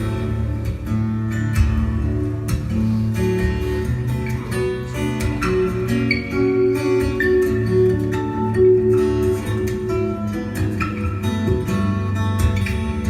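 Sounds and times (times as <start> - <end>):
guitar playing instrumental: 0.0 - 13.0.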